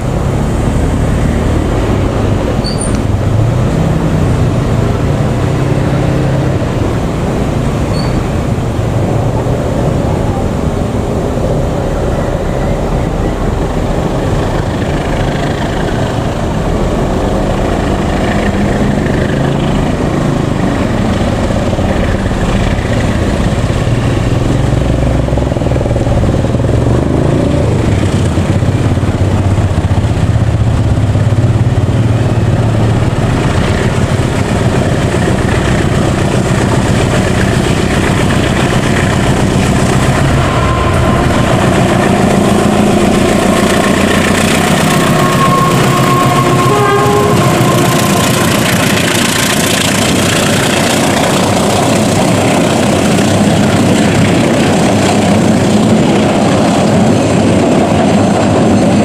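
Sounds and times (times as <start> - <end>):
coaches rumbling on rails: 0.0 - 59.0
locomotive engine pulling away: 0.0 - 59.0.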